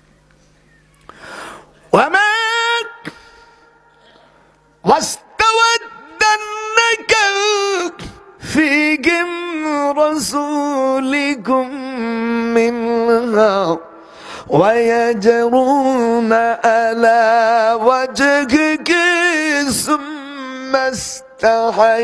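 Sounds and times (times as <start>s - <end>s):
man chanting: 1.8s - 22.0s.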